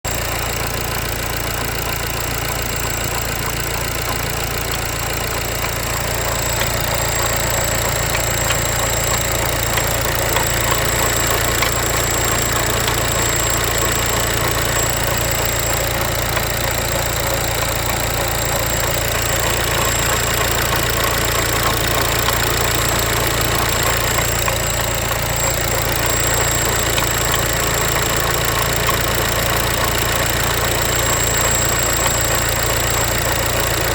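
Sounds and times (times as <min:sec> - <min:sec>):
diesel engine knocking: 0:00.0 - 0:33.9.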